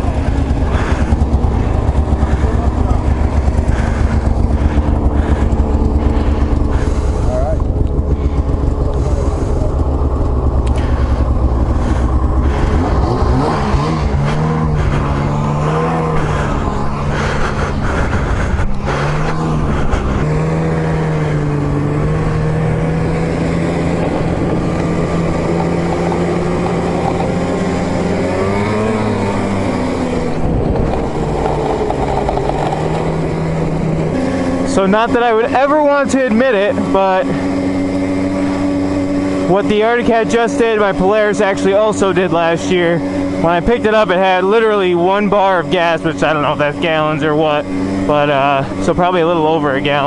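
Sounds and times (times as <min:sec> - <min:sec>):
snowmobile engine running: 0:00.0 - 0:50.0.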